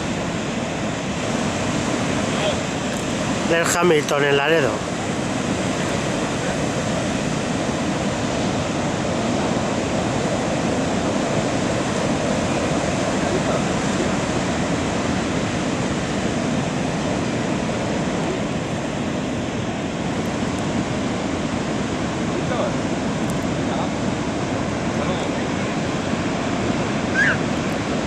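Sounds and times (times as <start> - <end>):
heavy ocean surf breaking: 0.0 - 28.0.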